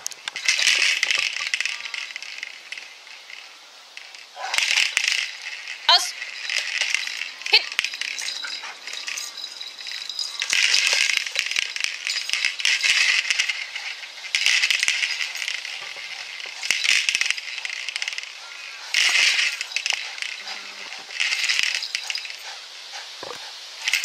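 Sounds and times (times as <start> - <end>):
ball toy rattling: 0.0 - 24.0.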